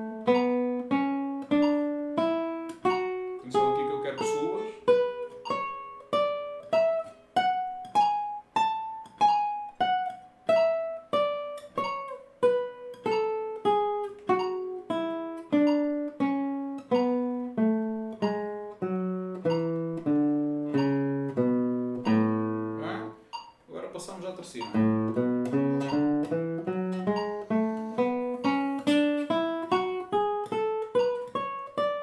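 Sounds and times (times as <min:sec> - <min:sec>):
classical guitar playing a scale: 0:00.0 - 0:23.6, 0:24.4 - 0:32.0.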